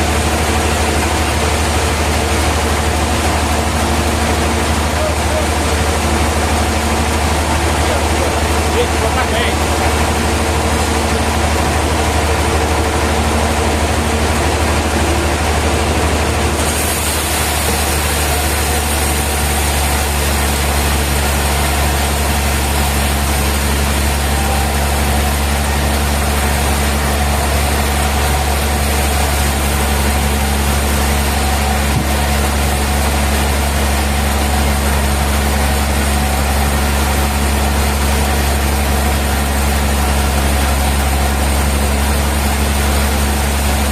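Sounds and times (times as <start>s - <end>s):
sawmill machinery humming: 0.0s - 43.9s.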